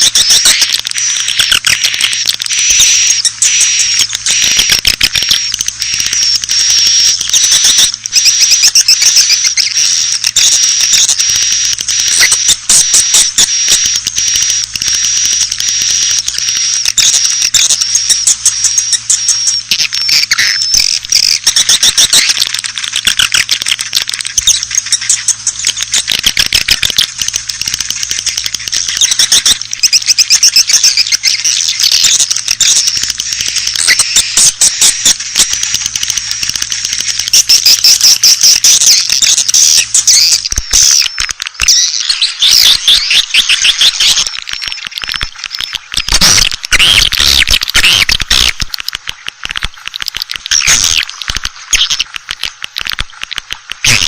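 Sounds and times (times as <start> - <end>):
swiftlets chirping and trilling: 0.0 - 54.0.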